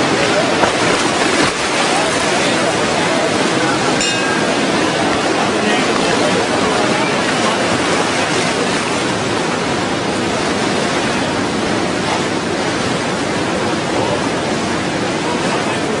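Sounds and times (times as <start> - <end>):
rushing floodwater: 0.0 - 16.0.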